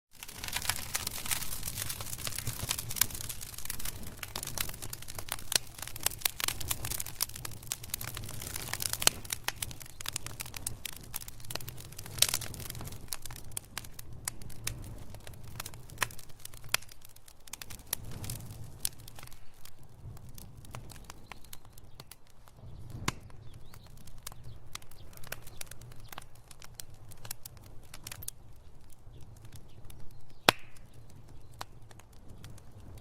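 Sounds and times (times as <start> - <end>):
wood fire crackling and popping: 0.1 - 33.0.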